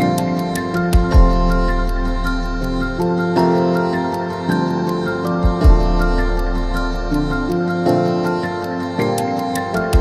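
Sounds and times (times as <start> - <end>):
light ticking beat: 0.0 - 10.0.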